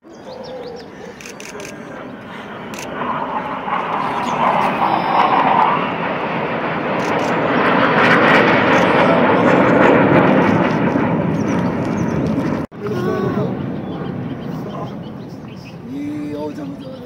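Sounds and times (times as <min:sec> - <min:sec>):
aircraft flying past: 0:00.0 - 0:17.0.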